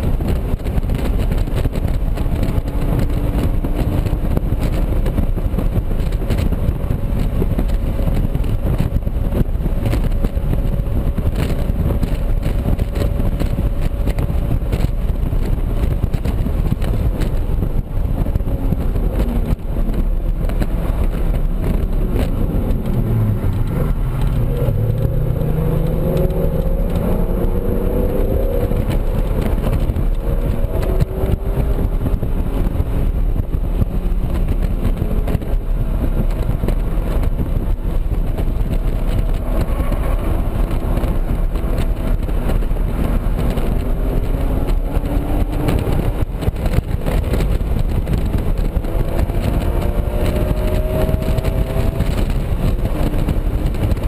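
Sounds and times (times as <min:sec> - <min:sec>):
car engine revving: 0:00.0 - 0:54.0
road and wind rumble: 0:00.0 - 0:54.0.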